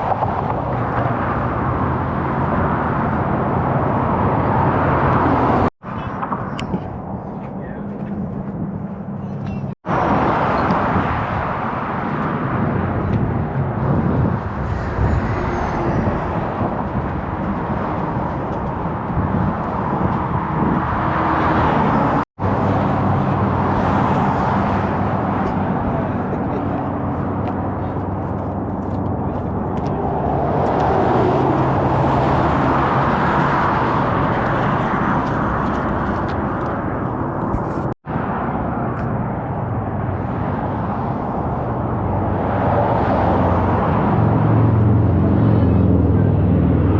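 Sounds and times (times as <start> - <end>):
tyre and wind rush: 0.0 - 46.9
vehicle engine hum: 0.0 - 46.9.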